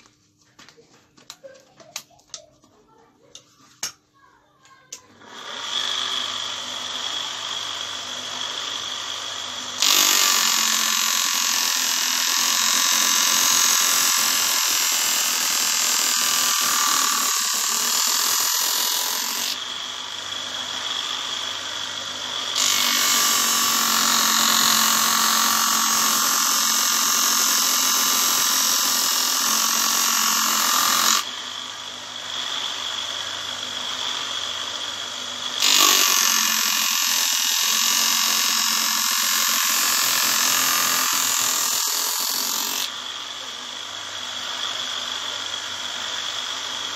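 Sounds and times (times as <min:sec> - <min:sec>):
knife-sharpening machine humming: 0:05.2 - 0:46.9.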